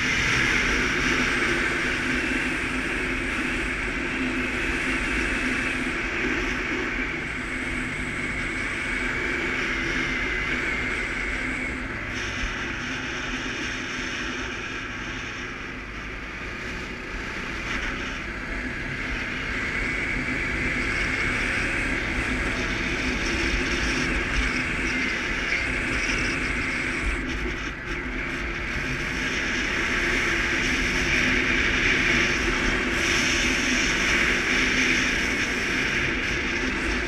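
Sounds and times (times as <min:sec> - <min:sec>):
atv engine running: 0:00.0 - 0:37.0
road and wind noise: 0:00.0 - 0:37.0.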